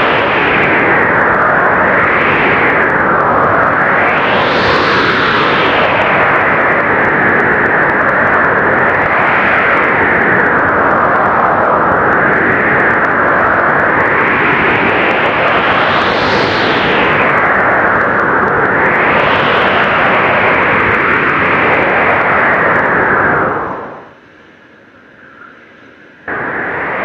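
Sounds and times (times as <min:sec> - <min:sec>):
blizzard wind blowing hard: 0:00.0 - 0:27.0.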